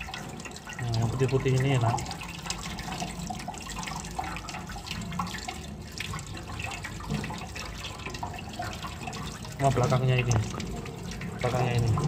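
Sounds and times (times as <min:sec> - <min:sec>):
water splashing in a steel sink: 0:00.0 - 0:12.0.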